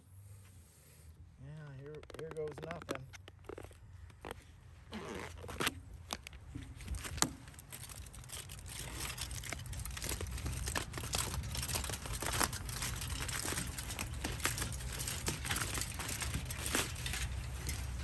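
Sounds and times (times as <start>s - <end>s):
aluminium foil crinkling: 1.7s - 4.4s, 5.0s - 18.0s
plastic packaging rustling: 1.8s - 18.0s.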